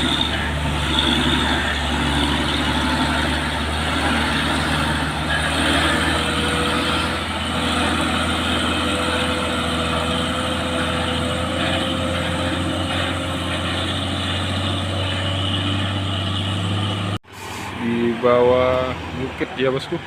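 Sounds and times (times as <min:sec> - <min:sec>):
truck diesel engine humming: 0:00.0 - 0:20.0.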